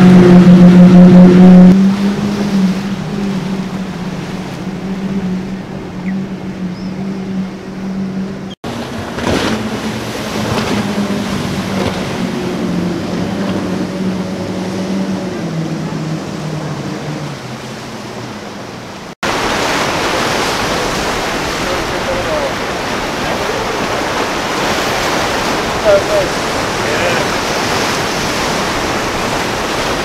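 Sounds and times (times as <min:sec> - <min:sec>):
outboard motors droning: 0:00.0 - 0:30.0
rush of spray and waves: 0:00.0 - 0:30.0
rush of water and wind: 0:00.0 - 0:30.0.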